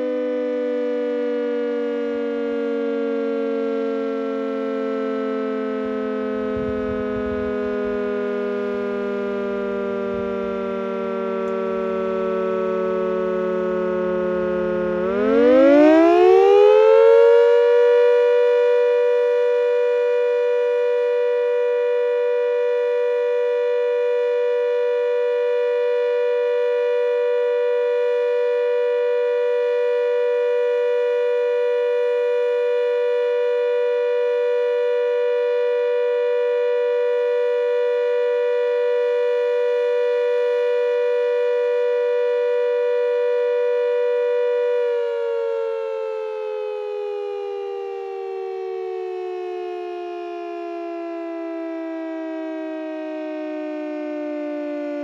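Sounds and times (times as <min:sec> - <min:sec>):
siren rising to steady note: 0:00.0 - 0:55.0.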